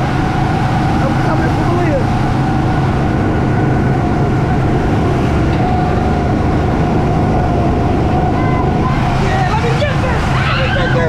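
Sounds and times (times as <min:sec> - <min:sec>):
high whine: 0:00.0 - 0:11.0
vehicle engine hum: 0:00.0 - 0:11.0.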